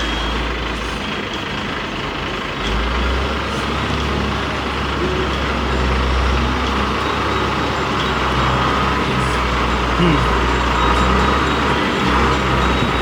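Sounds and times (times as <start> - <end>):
engine rumble: 0.0 - 13.0.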